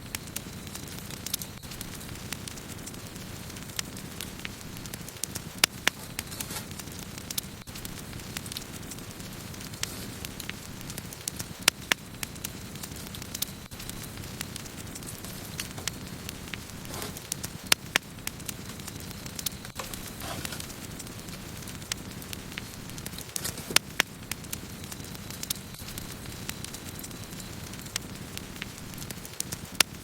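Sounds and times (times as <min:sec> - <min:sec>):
campfire flames rushing: 0:00.0 - 0:30.0
wood crackling and popping: 0:00.0 - 0:30.0.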